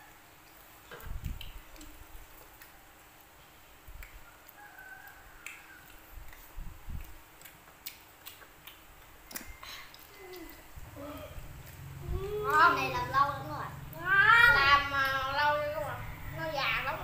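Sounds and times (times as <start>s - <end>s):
children chewing: 0.4s - 17.0s.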